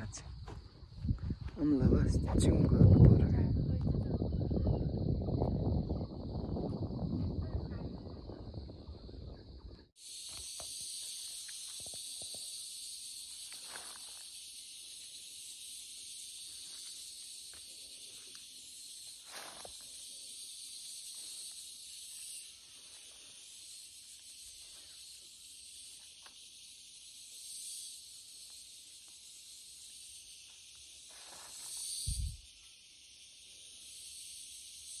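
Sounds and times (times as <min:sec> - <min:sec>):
insect chorus droning: 0:00.0 - 0:35.0.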